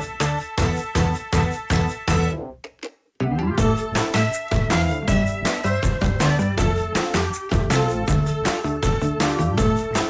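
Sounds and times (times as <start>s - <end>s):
upbeat music with beat: 0.0s - 2.4s, 3.6s - 10.0s.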